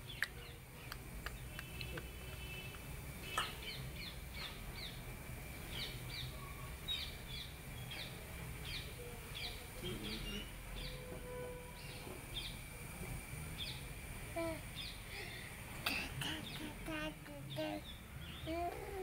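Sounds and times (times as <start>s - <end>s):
bird chirping: 0.0s - 11.1s, 11.7s - 12.7s, 13.5s - 15.1s, 16.2s - 19.0s
steady background hum: 0.0s - 19.0s.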